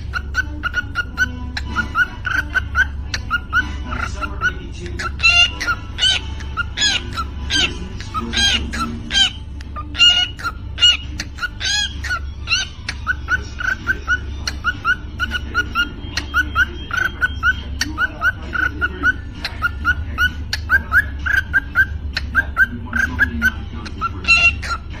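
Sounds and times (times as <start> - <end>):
cockatiel rhythmic chirps: 0.0 - 25.0
cockatiel squawky calls: 0.0 - 25.0.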